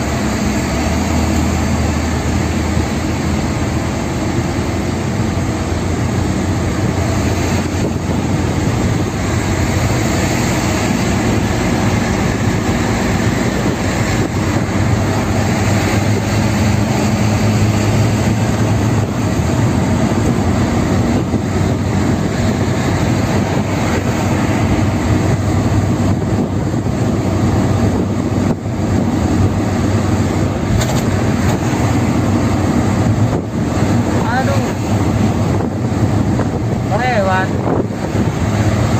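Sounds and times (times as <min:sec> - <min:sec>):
car driving on highway: 0:00.0 - 0:38.9.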